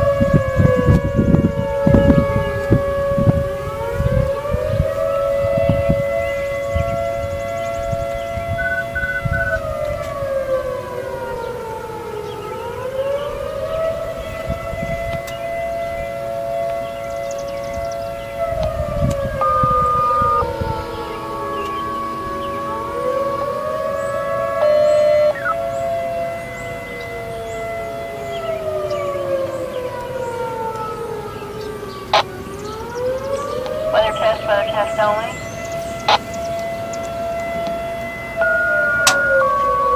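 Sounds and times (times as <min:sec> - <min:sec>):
low wind rumble: 0:00.0 - 0:39.9
siren wailing: 0:00.0 - 0:39.9.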